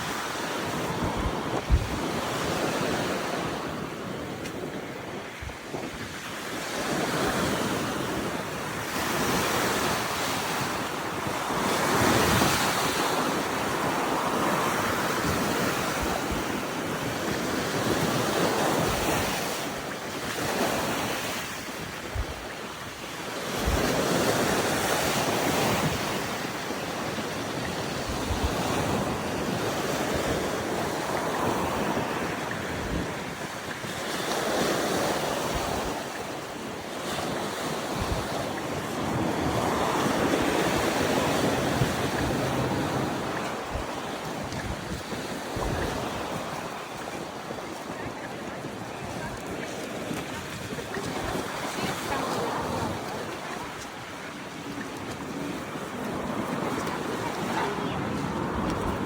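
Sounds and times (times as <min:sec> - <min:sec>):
sea waves breaking: 0:00.0 - 0:59.0
wind on microphone: 0:00.0 - 0:59.0.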